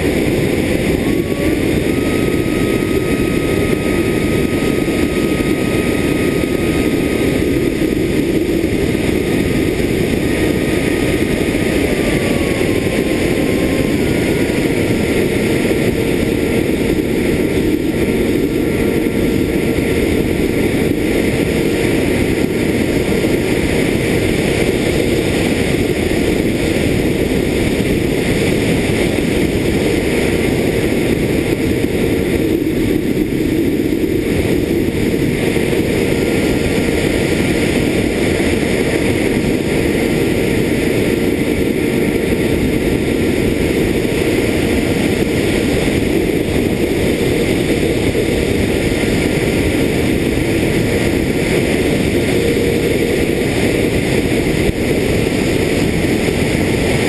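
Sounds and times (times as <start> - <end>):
electric motor and propeller drone: 0.0 - 57.0
wind rushing over microphone: 0.0 - 57.0.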